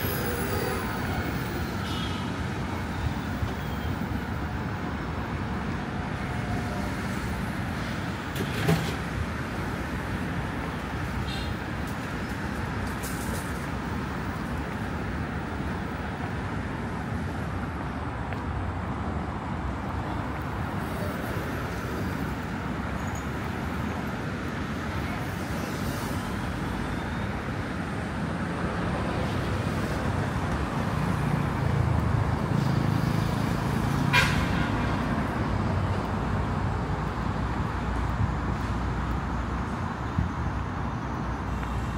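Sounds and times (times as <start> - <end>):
road traffic: 0.0 - 41.9.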